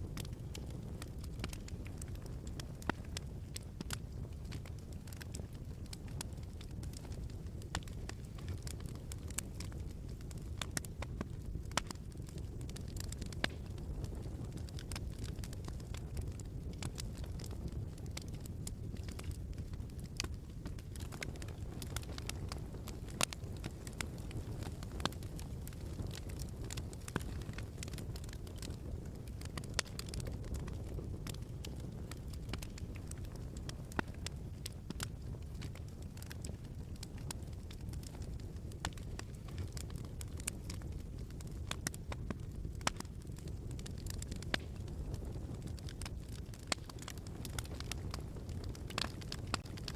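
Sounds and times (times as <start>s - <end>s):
low fire rumble: 0.0s - 49.9s
wood fire crackling and popping: 0.0s - 49.9s.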